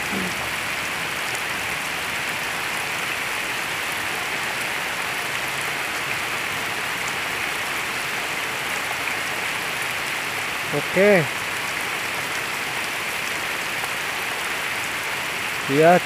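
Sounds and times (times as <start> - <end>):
rain falling on water and grass: 0.0 - 16.0.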